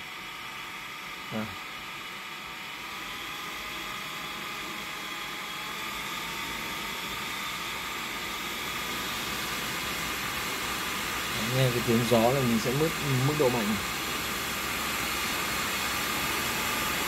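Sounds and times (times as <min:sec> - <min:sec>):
blower fan rushing air: 0:00.0 - 0:17.0
faint motor whine: 0:00.0 - 0:17.0.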